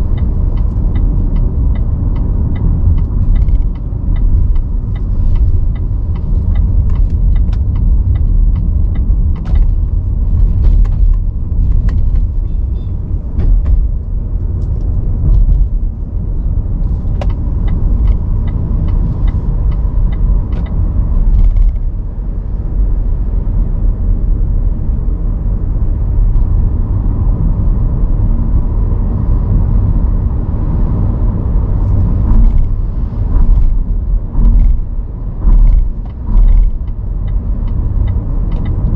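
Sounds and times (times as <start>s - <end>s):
car road rumble: 0.0s - 38.9s.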